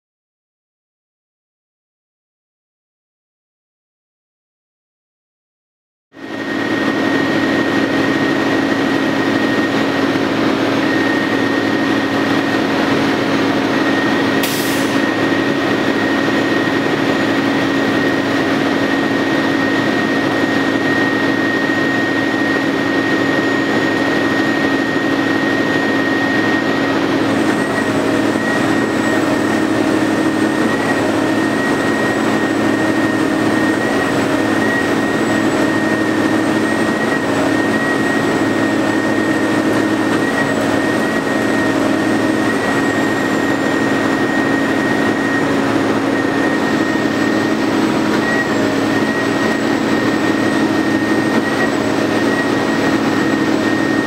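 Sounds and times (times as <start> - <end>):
concrete pump engine drone: 6.1 - 54.0
high steady whine: 6.2 - 54.0.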